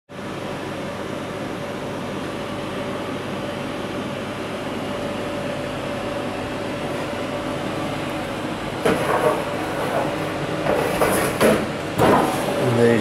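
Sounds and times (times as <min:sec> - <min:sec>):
machinery humming and whirring: 0:00.1 - 0:13.0.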